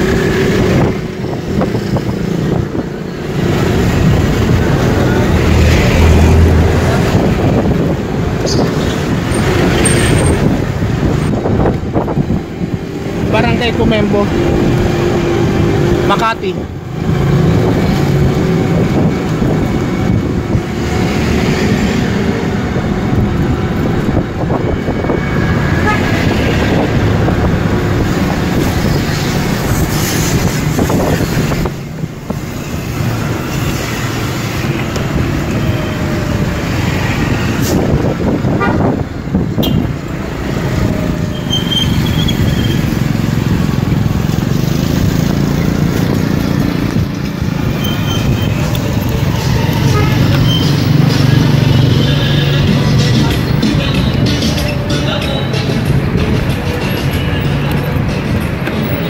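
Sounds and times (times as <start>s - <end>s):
wind buffeting microphone: 0.0s - 41.4s, 42.0s - 51.7s
road traffic: 0.0s - 59.0s.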